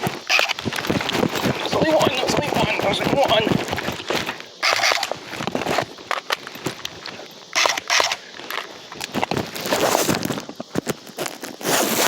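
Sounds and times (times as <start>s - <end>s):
fabric rustling and scraping: 0.0s - 6.8s, 9.1s - 12.0s.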